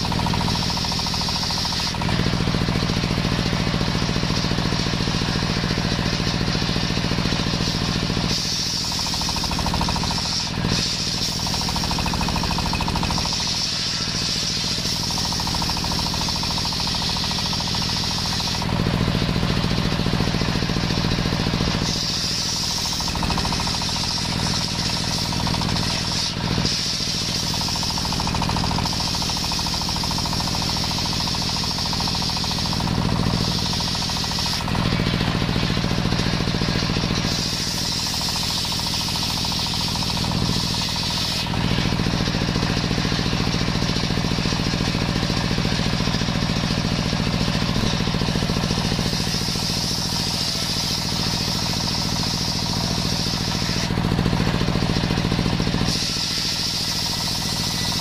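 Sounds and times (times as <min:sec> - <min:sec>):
circular saw cutting wood: 0:00.0 - 0:58.0.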